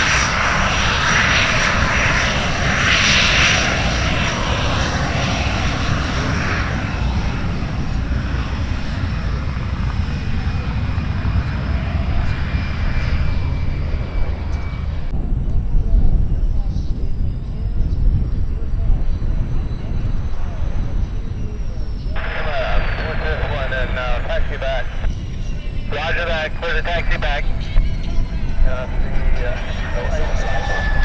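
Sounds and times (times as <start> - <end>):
jet engine roar on flyby: 0.0 - 31.0.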